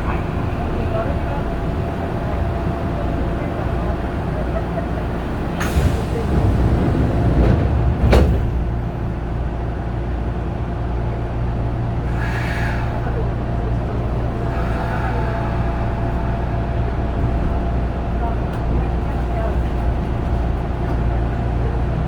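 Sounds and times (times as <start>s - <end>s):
train car low hum: 0.0s - 22.0s.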